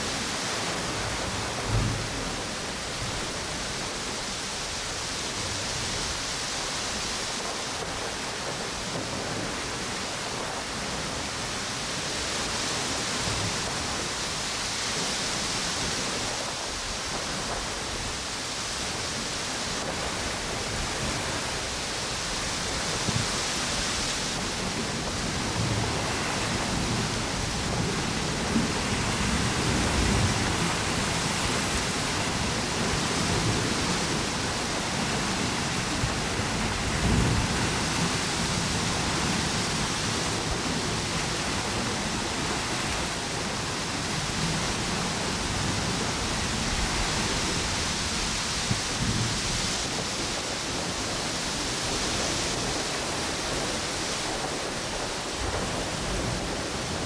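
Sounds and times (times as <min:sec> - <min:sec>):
ocean waves on a beach: 0:00.0 - 0:57.0
wind blowing through palm trees: 0:00.0 - 0:57.0.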